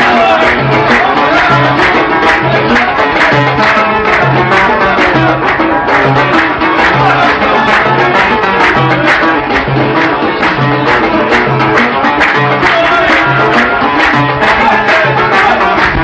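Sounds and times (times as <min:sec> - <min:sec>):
hand drum beat: 0:00.0 - 0:16.0.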